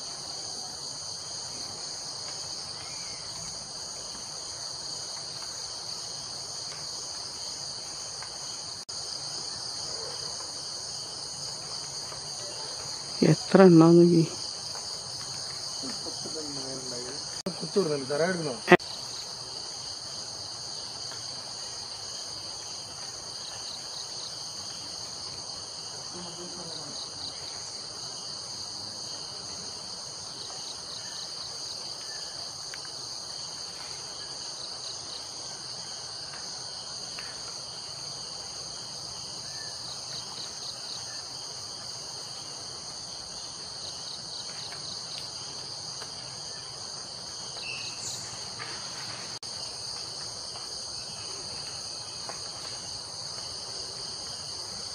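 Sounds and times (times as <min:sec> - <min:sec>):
insect chorus trilling: 0:00.0 - 0:54.9.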